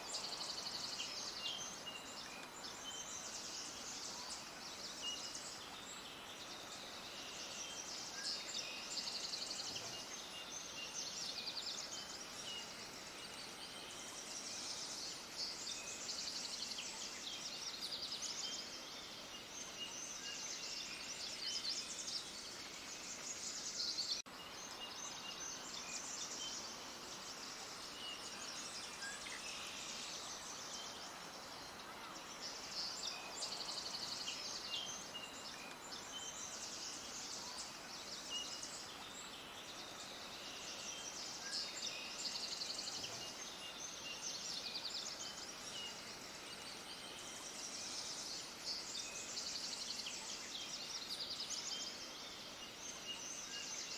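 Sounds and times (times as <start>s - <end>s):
outdoor background hiss: 0.0s - 53.9s
songbirds chirping and trilling: 0.0s - 53.9s.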